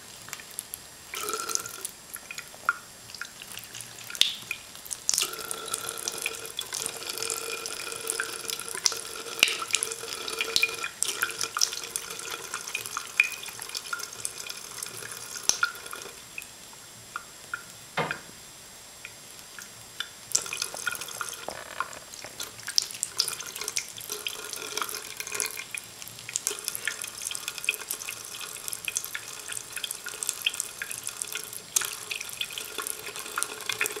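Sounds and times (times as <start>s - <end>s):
faucet water trickling into sink: 0.1s - 16.6s, 19.0s - 34.0s.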